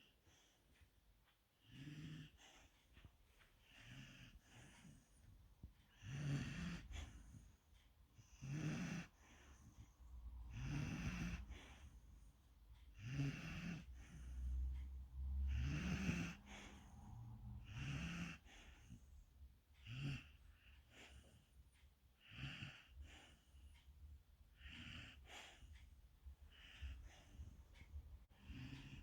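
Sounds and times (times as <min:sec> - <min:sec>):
puppy snoring: 0:01.6 - 0:23.8, 0:24.5 - 0:29.0.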